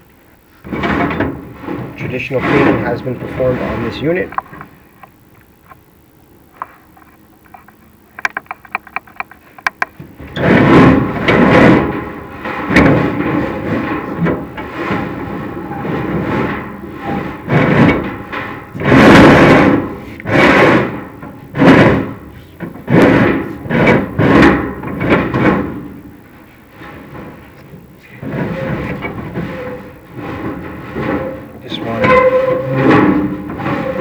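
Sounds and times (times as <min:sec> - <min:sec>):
camera scraping inside metal flue: 0:00.4 - 0:05.1, 0:06.6 - 0:34.0.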